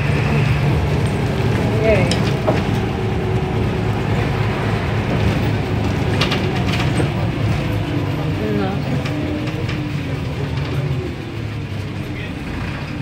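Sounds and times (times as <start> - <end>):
bus diesel engine humming: 0.0 - 13.0.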